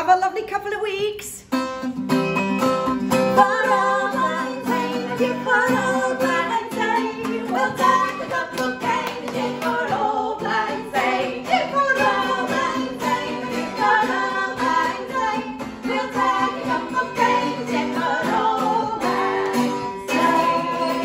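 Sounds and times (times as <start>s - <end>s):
acoustic guitar strumming: 1.5s - 21.0s
woman singing: 3.3s - 21.0s.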